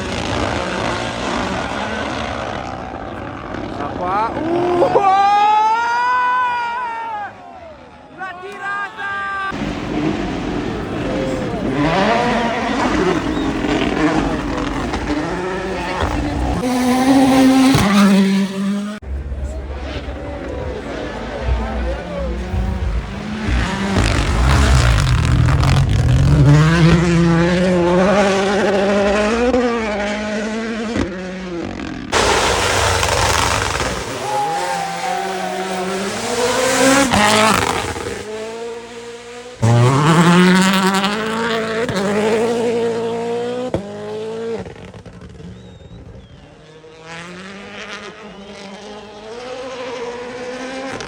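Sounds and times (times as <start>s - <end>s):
rally car engines accelerating: 0.0s - 8.2s, 9.5s - 51.0s.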